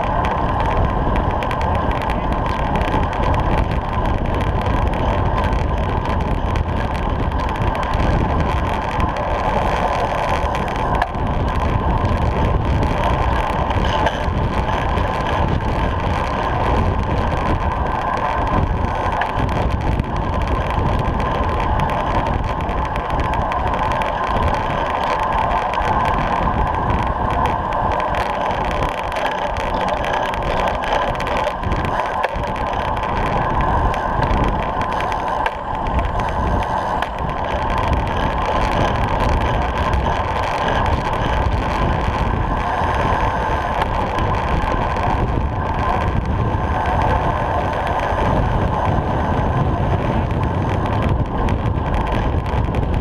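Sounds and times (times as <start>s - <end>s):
bike tyres humming on tarmac: 0.0s - 53.0s
wind noise on microphone: 0.0s - 53.0s.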